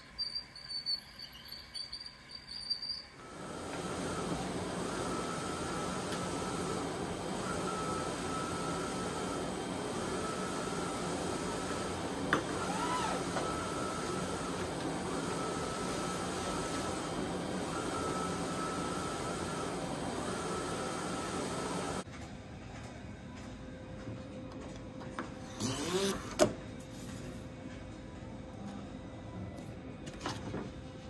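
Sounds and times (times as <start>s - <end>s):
laminator mechanical hum: 0.0s - 31.0s.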